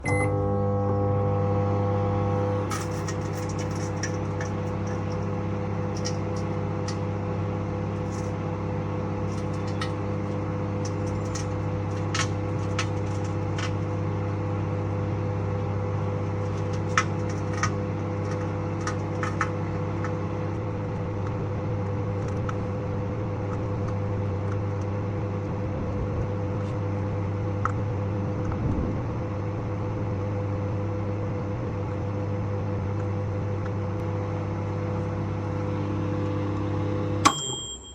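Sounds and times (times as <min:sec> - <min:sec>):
microwave oven humming: 0:00.0 - 0:37.9.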